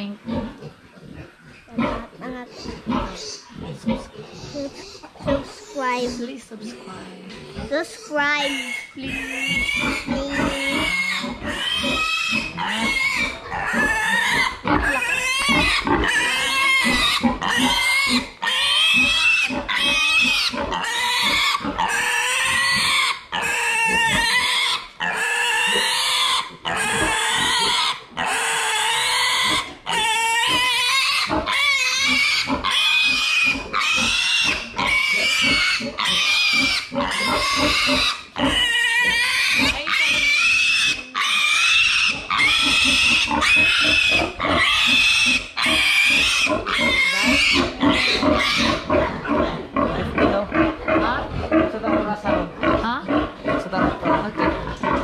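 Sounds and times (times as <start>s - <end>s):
piglet squealing: 1.5s - 50.4s.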